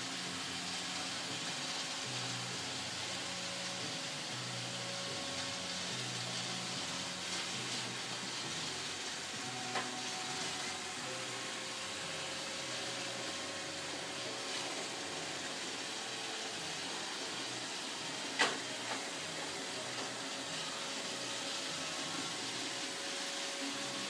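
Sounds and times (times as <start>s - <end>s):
robotic vacuum cleaner running: 0.0s - 24.0s.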